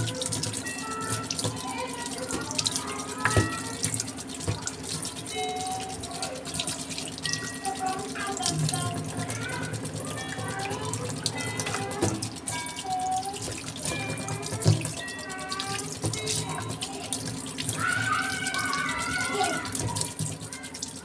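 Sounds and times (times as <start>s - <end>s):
splashing while rinsing shrimp: 0.0s - 21.0s
tap water running into sink: 0.0s - 21.0s.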